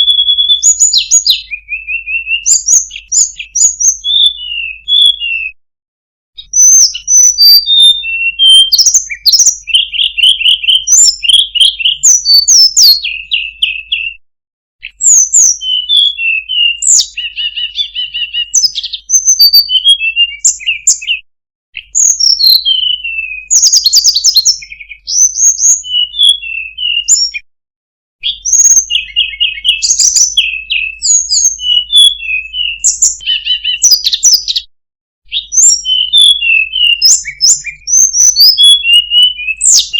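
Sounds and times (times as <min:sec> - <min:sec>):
songbird singing: 0:00.0 - 0:05.6, 0:06.4 - 0:14.2, 0:14.8 - 0:21.2, 0:21.8 - 0:27.4, 0:28.2 - 0:34.7, 0:35.3 - 0:39.9.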